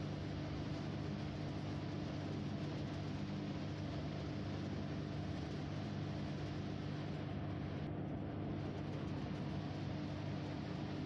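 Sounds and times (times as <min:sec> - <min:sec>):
mechanical drone with hum and hiss: 0:00.0 - 0:11.0.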